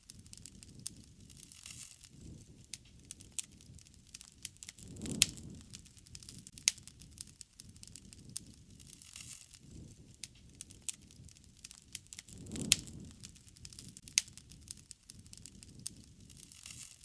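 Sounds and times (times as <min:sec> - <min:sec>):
campfire crackling and popping: 0:00.0 - 0:17.0
low rumble of flame: 0:00.0 - 0:17.0.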